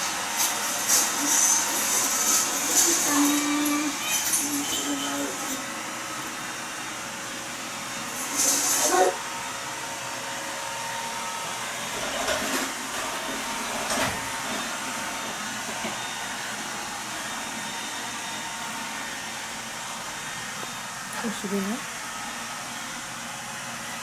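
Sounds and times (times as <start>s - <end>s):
household appliance whirring: 0.0s - 24.0s.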